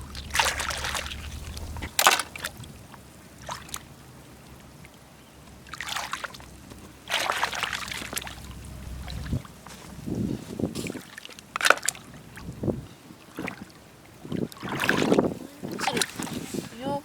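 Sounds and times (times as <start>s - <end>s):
seawater splashing and trickling: 0.0s - 17.0s.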